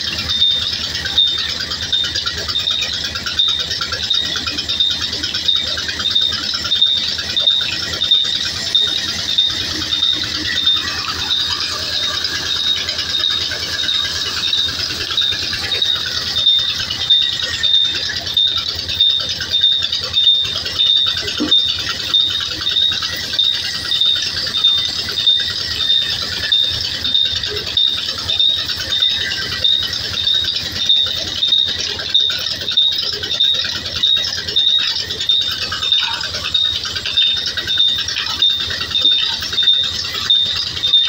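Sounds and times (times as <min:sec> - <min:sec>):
drive belt and pulleys rattling: 0:00.0 - 0:41.0
pulsing high ringing tone: 0:00.0 - 0:41.0.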